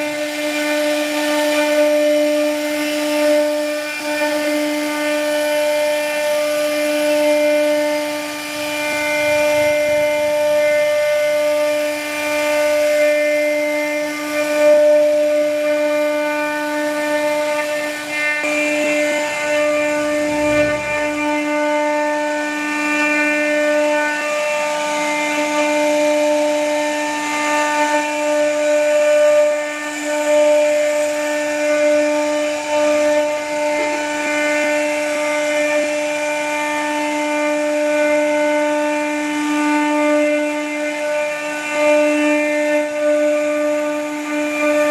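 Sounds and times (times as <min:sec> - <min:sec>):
wood cutting hiss: 0:00.0 - 0:36.1
router spindle high whine: 0:00.0 - 0:44.9.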